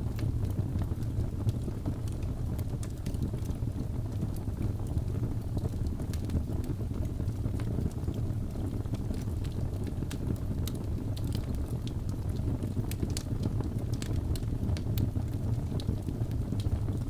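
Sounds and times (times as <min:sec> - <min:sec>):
fire flames rumbling: 0:00.0 - 0:17.0
logs crackling and popping: 0:00.1 - 0:17.0.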